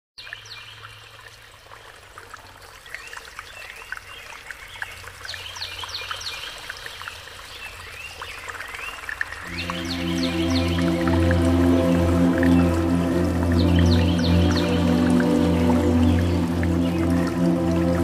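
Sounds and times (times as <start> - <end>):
water trickling: 0.2 - 18.0.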